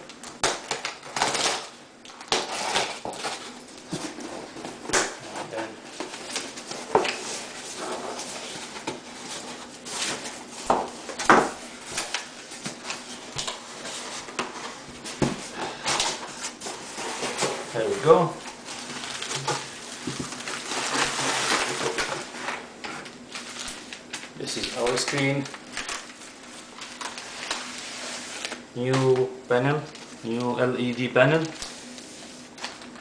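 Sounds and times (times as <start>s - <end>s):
packaging rustling and scraping: 0.4s - 33.0s
packaging crinkles: 4.9s - 33.0s.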